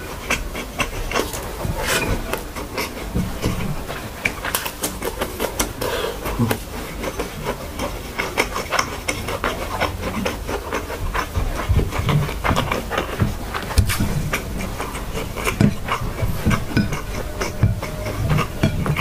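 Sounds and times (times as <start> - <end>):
fingers scraping rice on plate: 0.0 - 19.0
person chewing food: 0.0 - 19.0.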